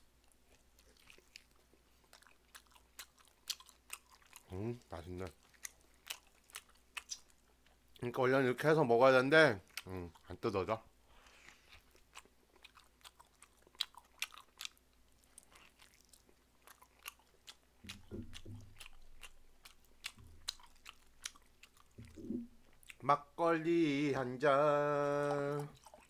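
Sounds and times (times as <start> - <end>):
wet chewing and mouth smacks: 0.1 - 8.1, 11.1 - 23.0, 25.0 - 26.0.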